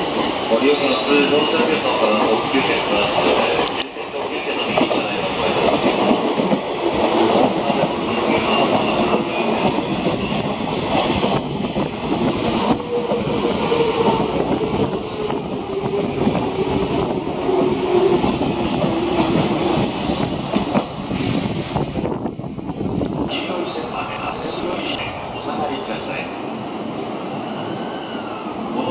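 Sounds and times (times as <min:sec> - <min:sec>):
electric train passing at speed: 0:00.0 - 0:28.9.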